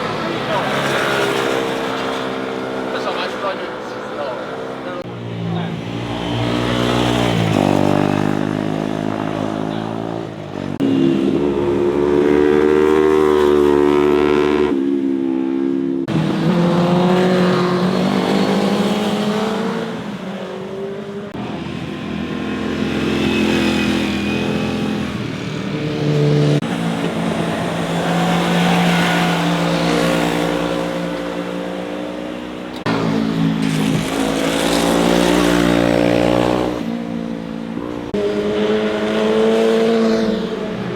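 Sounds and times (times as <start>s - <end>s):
motorcycles riding past: 0.0s - 40.9s.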